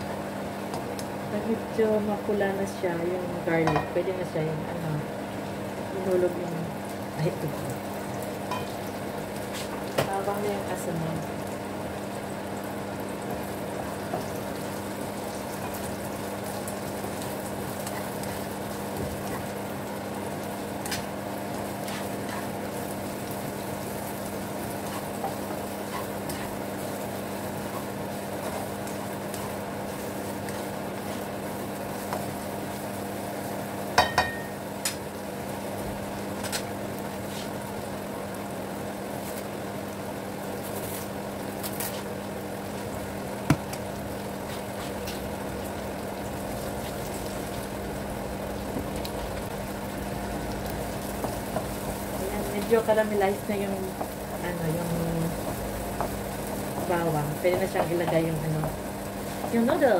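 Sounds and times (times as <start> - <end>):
constant low hum: 0.0 - 59.9
onions frying in oil: 0.0 - 59.9.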